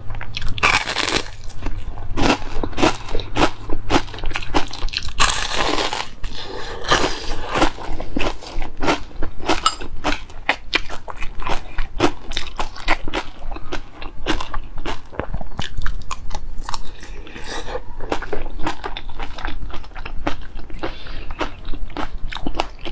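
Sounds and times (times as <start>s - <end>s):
person chewing and crunching food: 0.0s - 22.9s.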